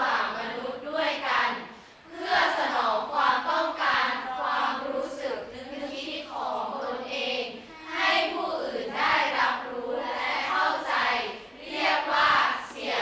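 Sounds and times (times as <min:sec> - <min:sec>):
students reading aloud in unison: 0:00.0 - 0:13.0.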